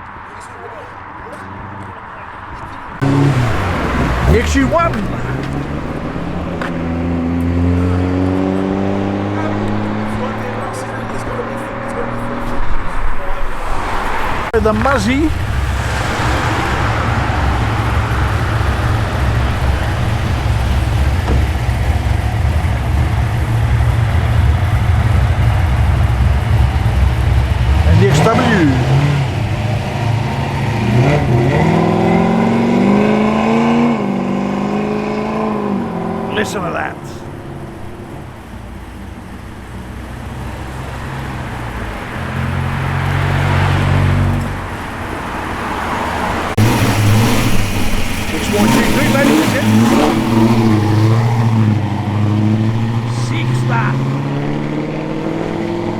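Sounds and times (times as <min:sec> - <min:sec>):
car engine exhaust rumble: 0:02.6 - 0:55.9.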